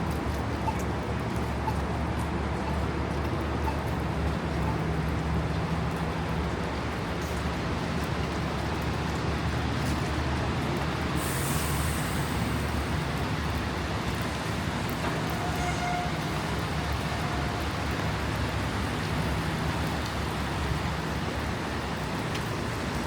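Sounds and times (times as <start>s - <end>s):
traffic engines rumbling: 0.0s - 23.0s.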